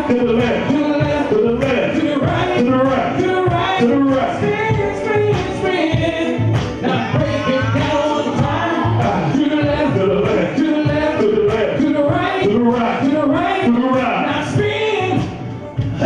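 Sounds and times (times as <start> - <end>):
men singing into microphones: 0.0 - 16.0
music: 0.0 - 16.0.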